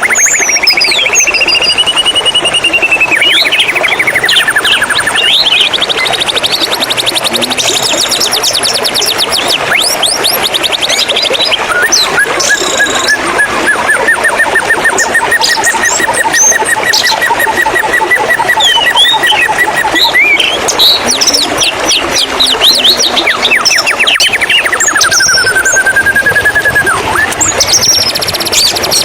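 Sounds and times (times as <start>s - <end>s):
bird singing: 0.0s - 29.0s
flowing water: 0.0s - 29.0s.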